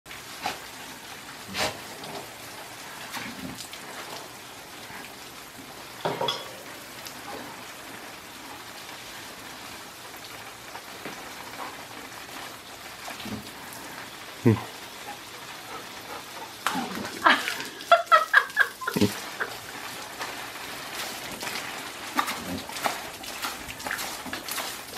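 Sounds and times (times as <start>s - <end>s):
hose water spraying on pavers: 0.1s - 24.9s.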